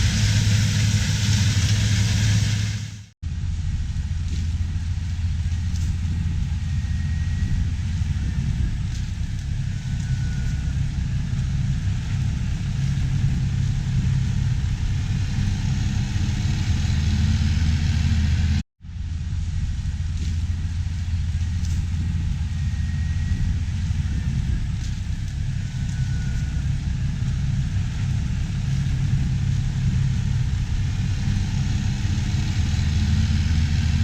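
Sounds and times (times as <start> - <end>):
diesel farm machinery running: 0.0 - 34.0.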